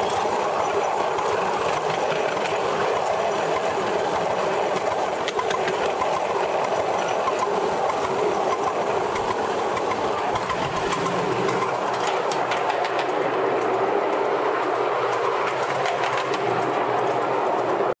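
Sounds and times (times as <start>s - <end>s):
model locomotive running on track: 0.0s - 18.0s.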